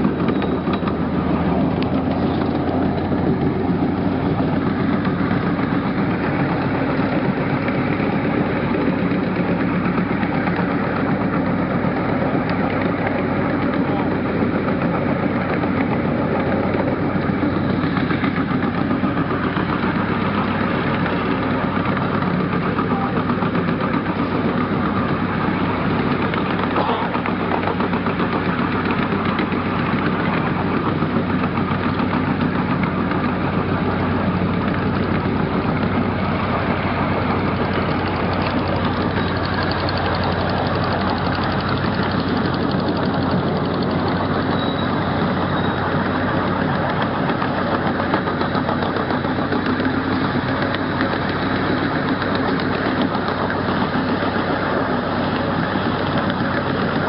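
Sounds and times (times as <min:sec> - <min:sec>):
riding train running on track: 0:00.0 - 0:57.0.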